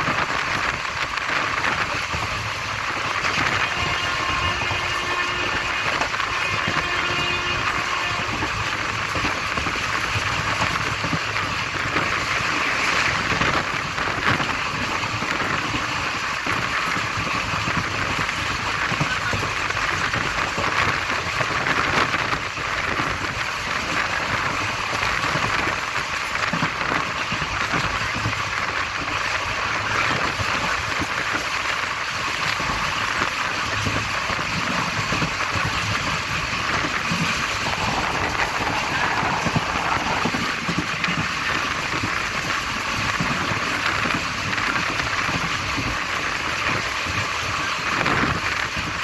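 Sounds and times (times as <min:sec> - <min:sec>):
passenger train rushing: 0:00.0 - 0:48.6.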